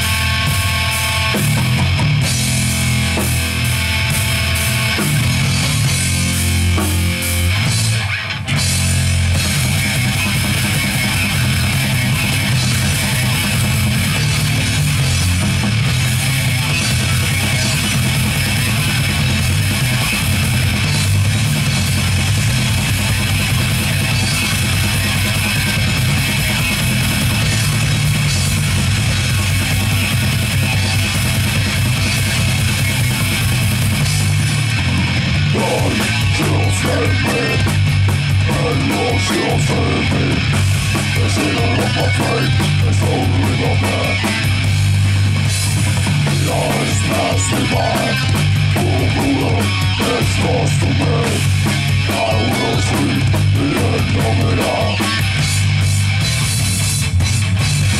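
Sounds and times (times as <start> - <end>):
heavy metal band playing live: 0.0 - 57.9.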